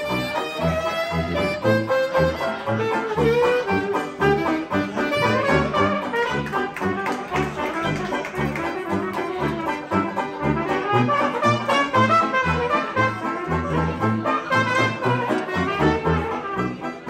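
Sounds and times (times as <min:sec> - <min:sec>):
jazz band playing: 0:00.0 - 0:17.0
sousaphone bass line: 0:00.2 - 0:06.6, 0:07.9 - 0:16.8.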